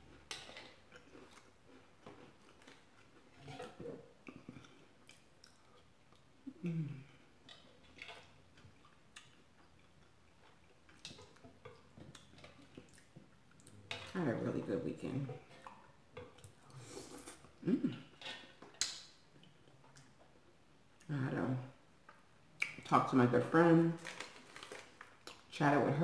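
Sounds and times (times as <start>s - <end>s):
soft chewing and sipping: 0.0s - 22.9s, 24.0s - 25.5s.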